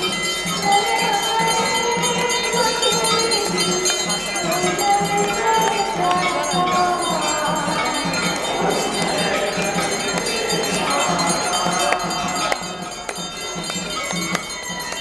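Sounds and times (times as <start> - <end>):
metal bells ringing: 0.0 - 15.0.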